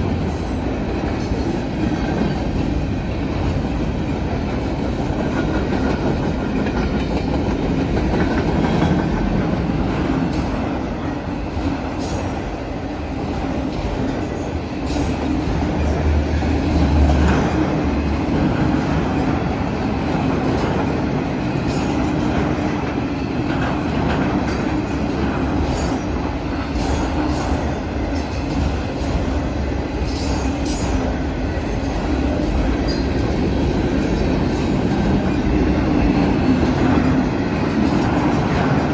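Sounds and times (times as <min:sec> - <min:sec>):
train cars clicking and clanking: 0:00.0 - 0:38.9
train wheels rumbling on rail: 0:00.0 - 0:38.9.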